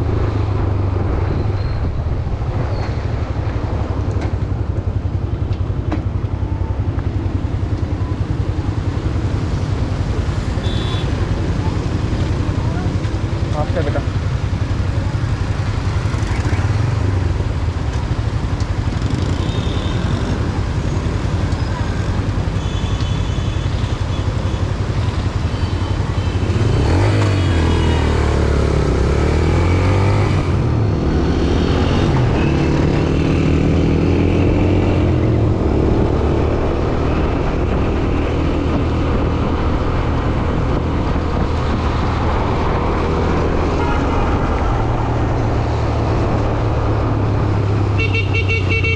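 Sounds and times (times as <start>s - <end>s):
road noise: 0.0s - 48.9s.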